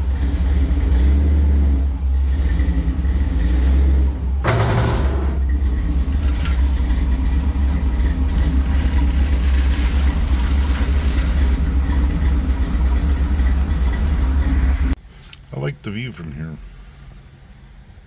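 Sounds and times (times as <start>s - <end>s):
car engine idling with deep rumble: 0.0s - 18.0s.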